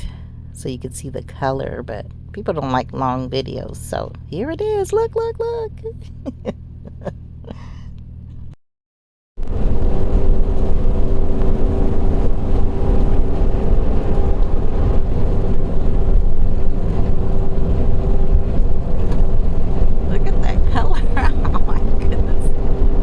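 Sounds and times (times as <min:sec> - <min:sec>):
vehicle road and engine rumble: 0:00.0 - 0:08.6, 0:09.4 - 0:23.0.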